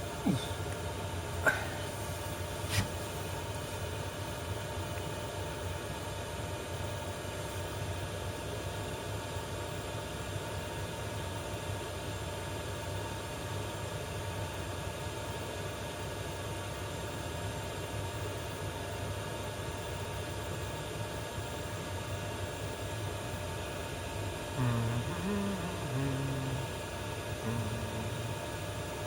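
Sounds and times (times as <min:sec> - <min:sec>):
parking heater whirring: 0:00.0 - 0:29.0.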